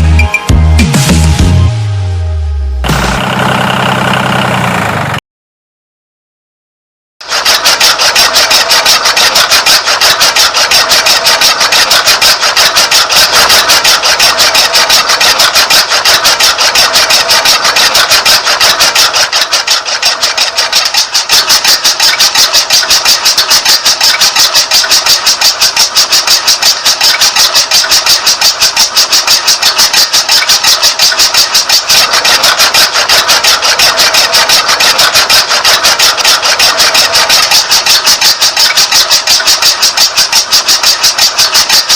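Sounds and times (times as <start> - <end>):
small electric motor clattering: 7.2 - 41.9.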